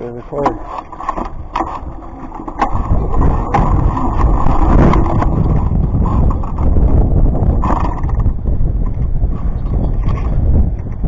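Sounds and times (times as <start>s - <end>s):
wheels rolling over concrete: 0.0s - 11.0s
wind buffeting microphone: 0.0s - 11.0s.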